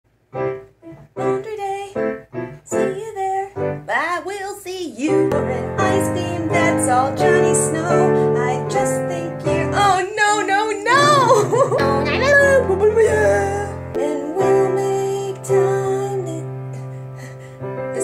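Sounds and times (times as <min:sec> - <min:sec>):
digital piano accompaniment: 0:00.2 - 0:03.9, 0:05.2 - 0:18.0
woman singing: 0:00.8 - 0:18.0.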